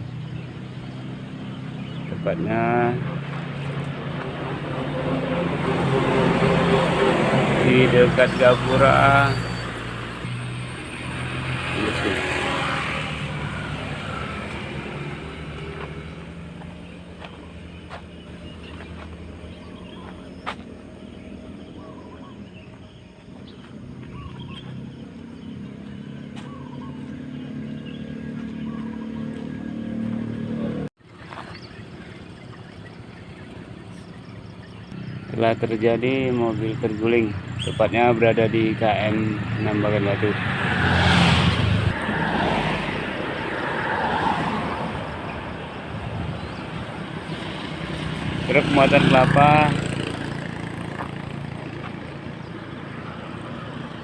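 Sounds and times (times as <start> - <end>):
birds chirping: 0.0 - 54.0
highway traffic rushing: 0.0 - 54.0
vehicle engine hum: 0.0 - 54.0.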